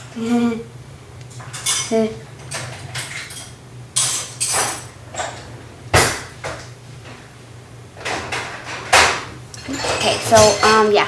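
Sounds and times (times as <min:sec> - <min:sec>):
objects scraping and clattering: 0:01.3 - 0:07.3, 0:08.0 - 0:11.0.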